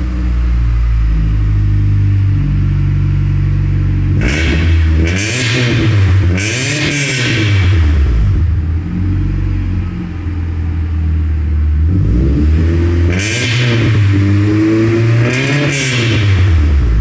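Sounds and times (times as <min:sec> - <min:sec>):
car engine idling with throttle blips: 0:00.0 - 0:17.0.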